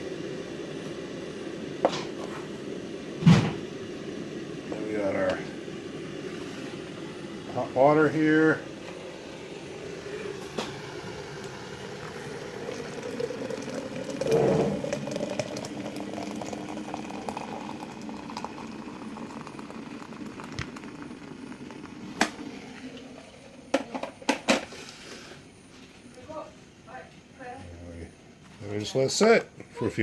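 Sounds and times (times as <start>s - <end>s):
hot water pouring and gurgling: 0.0s - 25.3s.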